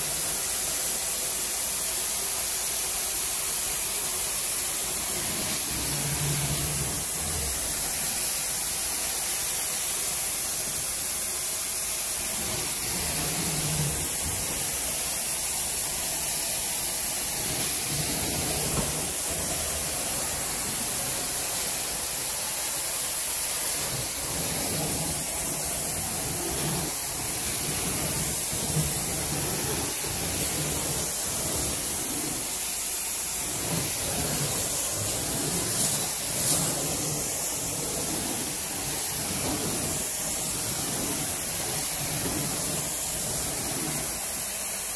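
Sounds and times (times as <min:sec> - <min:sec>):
carpet cleaner suction hiss: 0:00.0 - 0:44.9.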